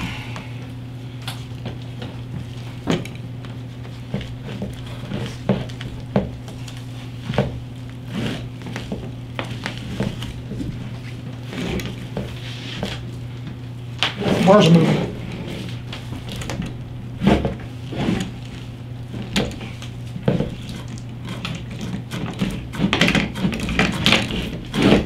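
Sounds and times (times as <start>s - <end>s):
steady low hum: 0.0s - 25.0s
hands knocking and rubbing wiring: 1.3s - 14.8s, 15.5s - 25.0s.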